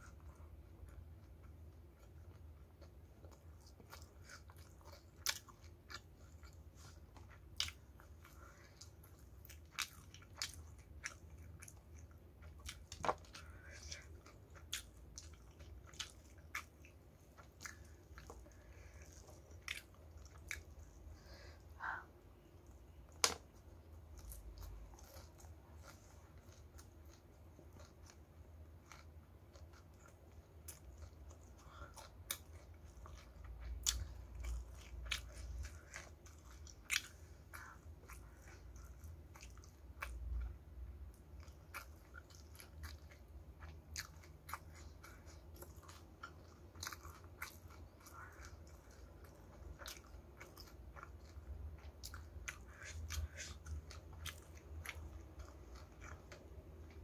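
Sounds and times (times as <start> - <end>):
crunchy chewing: 0.0 - 21.4, 24.0 - 40.6, 41.2 - 57.0
steady low hum: 0.0 - 57.0.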